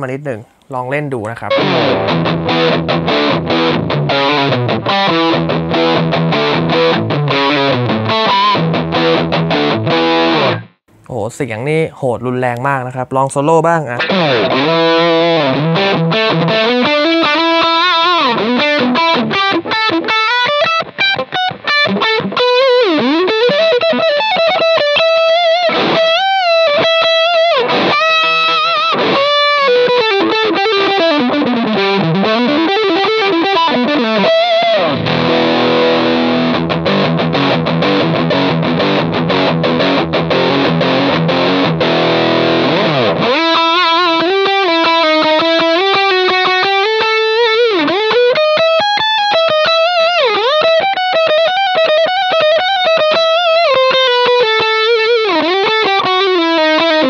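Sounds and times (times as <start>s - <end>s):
distorted electric guitar: 0.0s - 11.4s, 12.6s - 57.0s.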